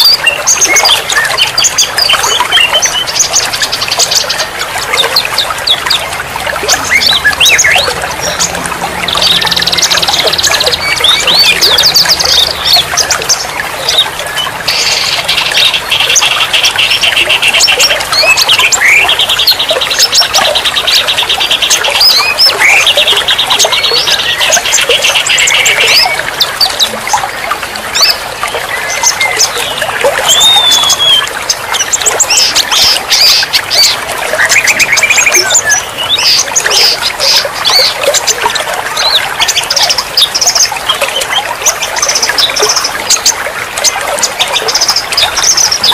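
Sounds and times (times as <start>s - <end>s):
songbirds singing: 0.0s - 45.9s
trickle of running water: 0.0s - 45.9s.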